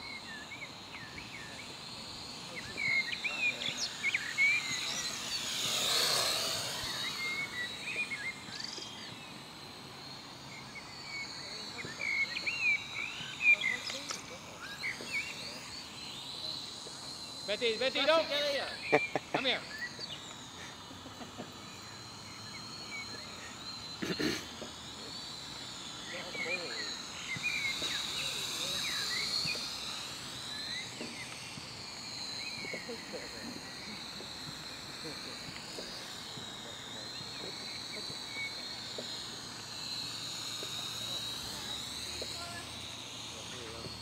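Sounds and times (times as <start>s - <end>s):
birds chirping: 0.0s - 44.0s
drone motors whining: 0.0s - 44.0s
quadcopter propellers buzzing: 0.0s - 44.0s.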